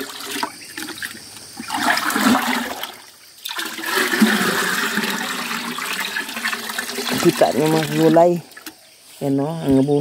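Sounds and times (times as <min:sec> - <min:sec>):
liquid pouring into tub: 0:00.0 - 0:08.7.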